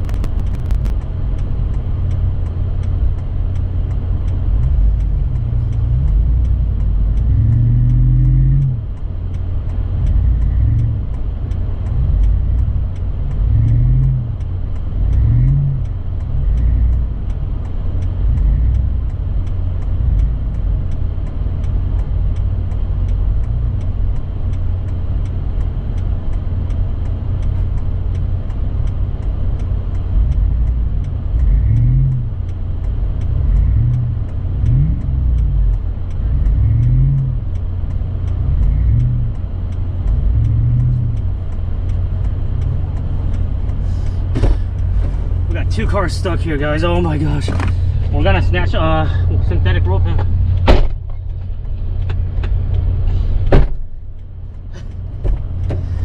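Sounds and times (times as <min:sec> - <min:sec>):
car engine revving: 0:00.0 - 0:56.0
faint regular ticking: 0:00.0 - 0:56.0.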